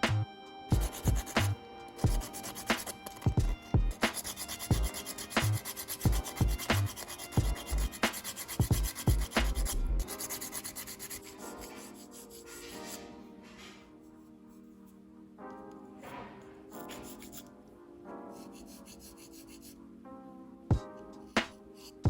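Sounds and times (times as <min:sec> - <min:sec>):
soft music: 0:00.0 - 0:22.0.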